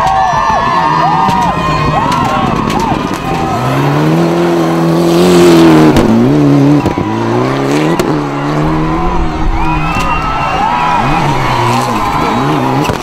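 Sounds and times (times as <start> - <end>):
rally car engine revving: 0.5 - 13.0.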